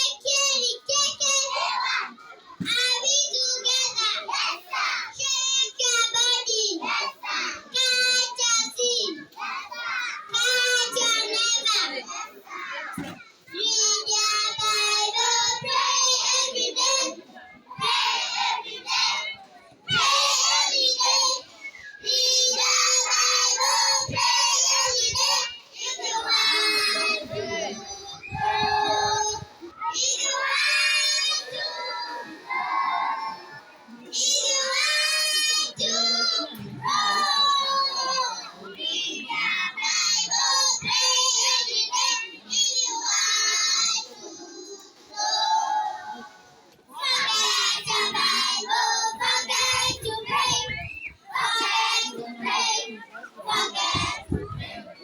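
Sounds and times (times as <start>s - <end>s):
child singing in a high voice: 0.0s - 55.0s.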